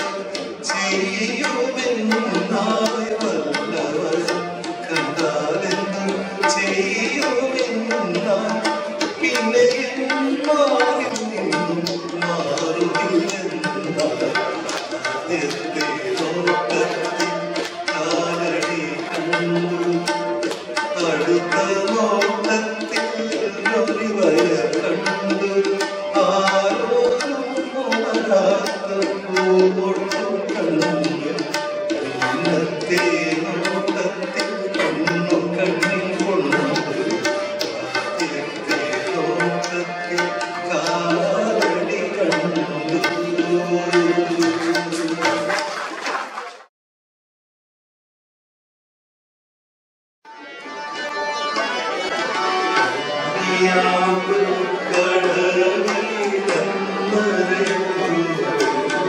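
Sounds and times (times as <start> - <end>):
man singing into microphone: 0.0 - 45.7, 52.3 - 59.0
tabla playing quick rhythm: 0.0 - 46.7, 50.4 - 59.0.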